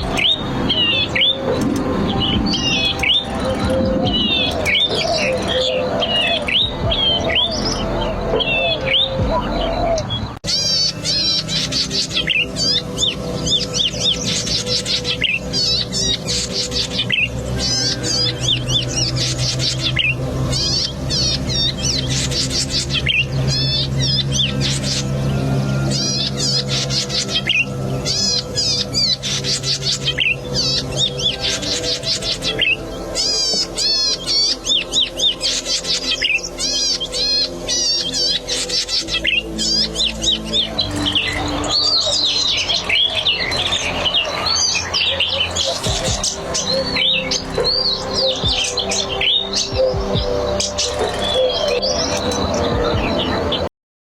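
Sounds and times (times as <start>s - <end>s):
bird singing high chirps: 0.0s - 53.7s
buzzy trills: 0.0s - 53.7s.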